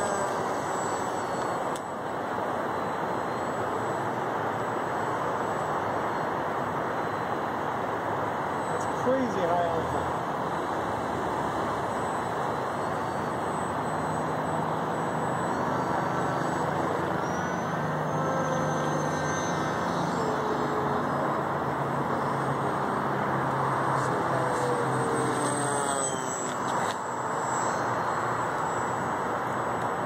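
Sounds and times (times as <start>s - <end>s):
distant electric motor whine: 0.0s - 30.0s.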